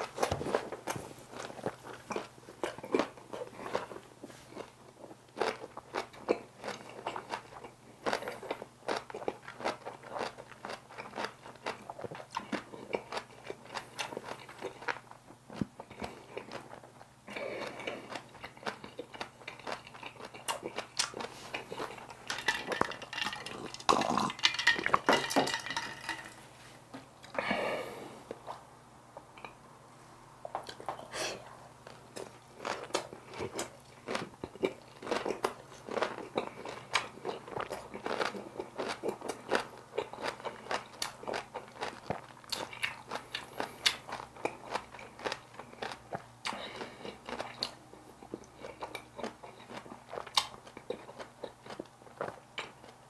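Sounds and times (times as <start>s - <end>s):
close-up chewing crunches: 0.0s - 25.3s, 31.8s - 53.0s.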